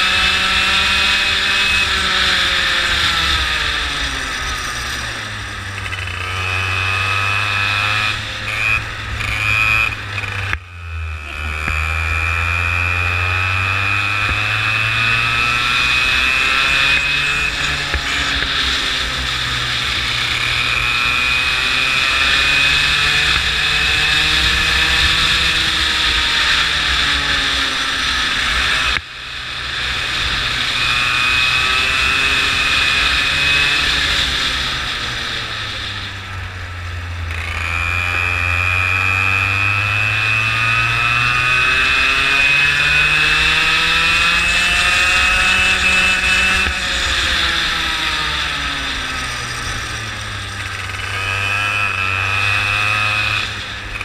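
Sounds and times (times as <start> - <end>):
go-kart engine: 0.0 - 54.0.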